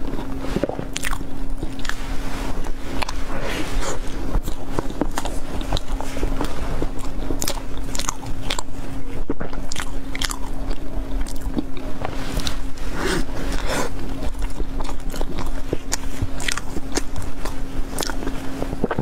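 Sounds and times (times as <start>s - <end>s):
person chewing wet smacks: 0.0s - 3.2s, 3.8s - 12.7s, 13.5s - 19.0s
steady low hum: 0.0s - 19.0s.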